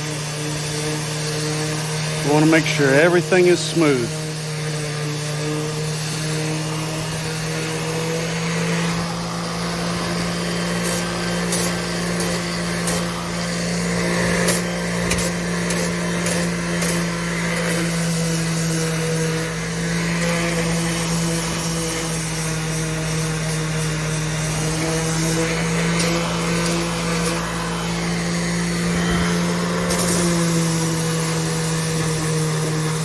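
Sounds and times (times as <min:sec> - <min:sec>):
electric sander on wood: 0:00.0 - 0:33.0.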